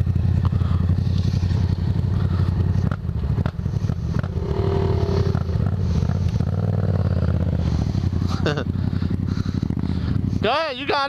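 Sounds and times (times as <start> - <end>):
motorcycle engines idling: 0.0 - 11.0
engine revving: 0.6 - 10.4.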